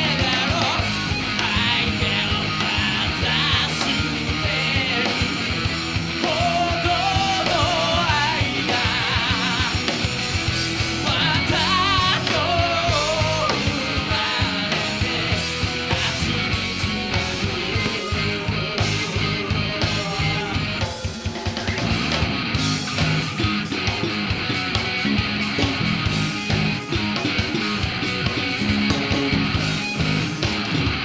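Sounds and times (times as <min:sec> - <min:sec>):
live rock band playing: 0:00.0 - 0:31.0
wavering electric guitar lead: 0:00.0 - 0:31.0.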